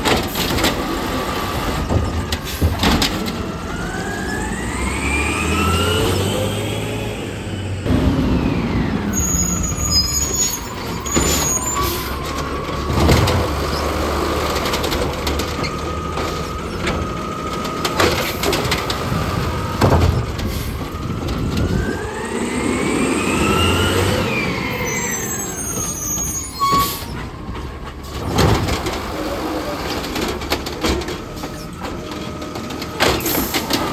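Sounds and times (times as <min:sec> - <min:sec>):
garbage truck mechanical whine: 0:00.0 - 0:33.9
truck engine running: 0:00.0 - 0:33.9.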